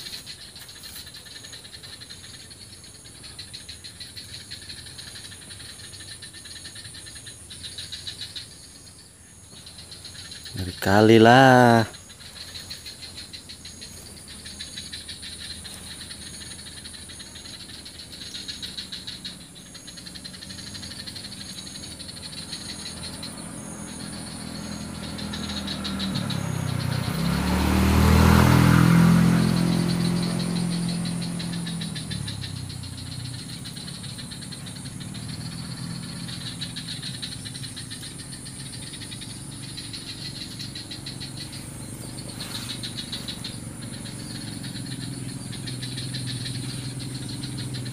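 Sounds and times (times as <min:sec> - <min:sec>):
insects buzzing: 0:00.0 - 0:47.9
vehicle engine passing by: 0:00.0 - 0:47.9.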